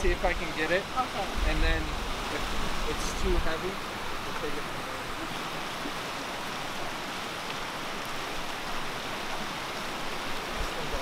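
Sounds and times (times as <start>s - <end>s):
floodwater rushing down creek: 0.0s - 11.0s.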